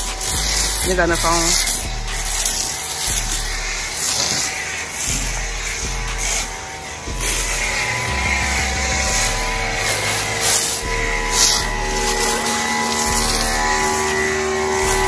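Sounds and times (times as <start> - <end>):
pressure washer motor drone: 0.0 - 15.0
water spray hissing: 0.0 - 15.0.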